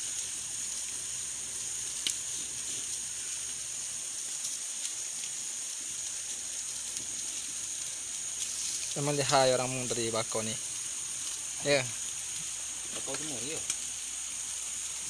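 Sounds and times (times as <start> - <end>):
skewers sizzling over charcoal: 0.0 - 15.0.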